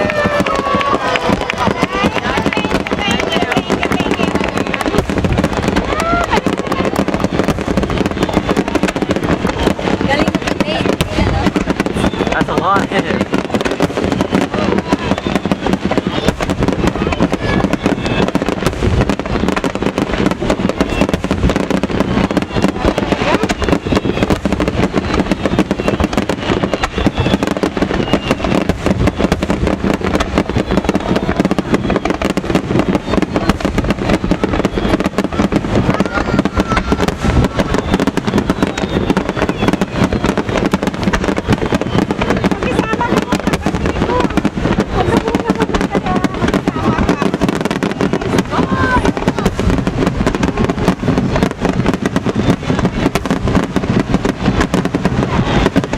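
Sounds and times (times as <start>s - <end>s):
fireworks bursting and crackling: 0.0s - 55.9s.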